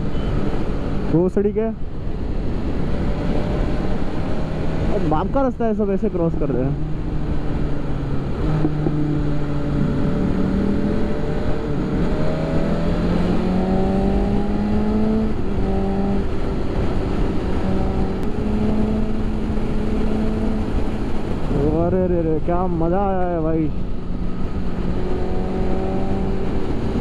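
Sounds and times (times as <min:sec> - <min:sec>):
wind and road noise: 0:00.0 - 0:27.0
motorcycle engine accelerating: 0:02.1 - 0:05.4, 0:06.3 - 0:22.4, 0:23.7 - 0:27.0.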